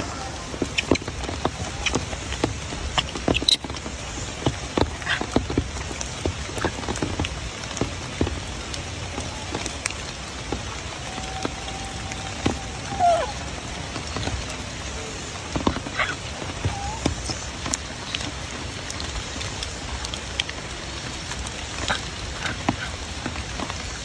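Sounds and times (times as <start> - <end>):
rain on leaves: 0.0 - 24.0
water drips and ticks: 0.0 - 24.0.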